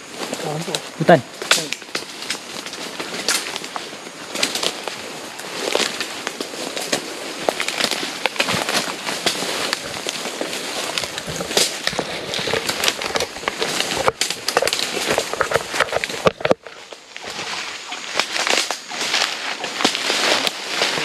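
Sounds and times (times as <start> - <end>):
dry leaves crunching underfoot: 0.0 - 21.0.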